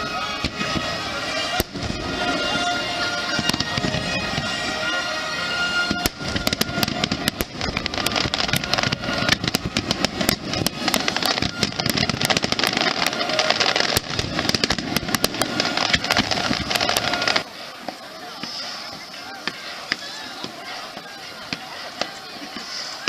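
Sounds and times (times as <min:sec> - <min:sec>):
fireworks crackling: 0:00.0 - 0:23.0.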